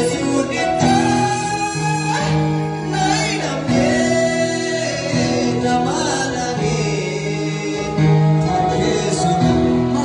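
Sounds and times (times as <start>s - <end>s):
man singing gospel song: 0.0s - 10.0s.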